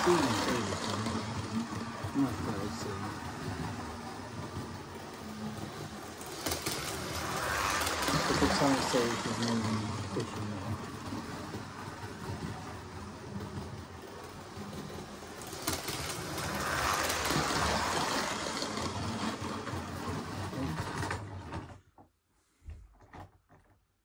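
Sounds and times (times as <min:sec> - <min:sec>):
model train motor whirring: 0:00.0 - 0:21.2
wheels rattling over track: 0:00.0 - 0:21.8.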